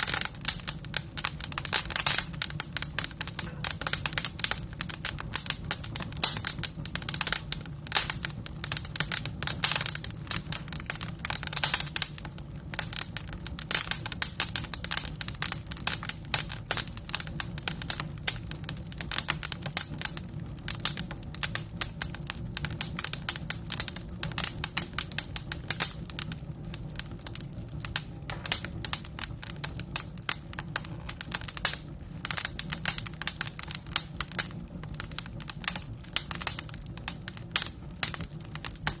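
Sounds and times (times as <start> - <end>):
firewood crackling: 0.0 - 39.0
low steady rumble: 0.0 - 39.0.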